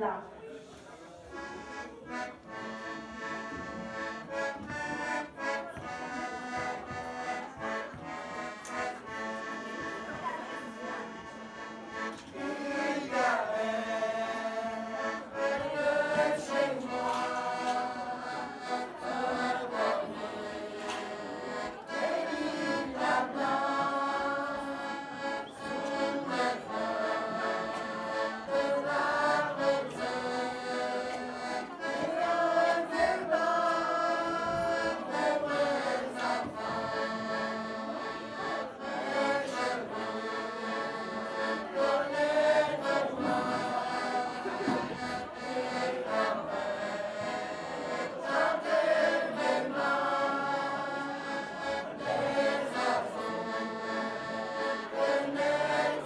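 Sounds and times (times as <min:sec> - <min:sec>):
button accordion: 0:00.8 - 0:56.0
group singing together: 0:10.1 - 0:56.0.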